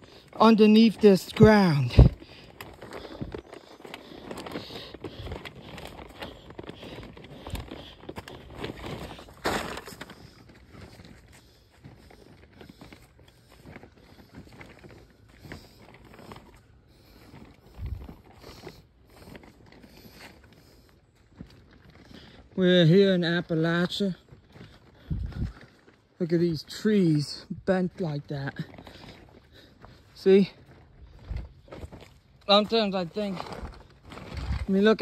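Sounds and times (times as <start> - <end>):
footsteps on dirt trail: 0.0 - 35.0.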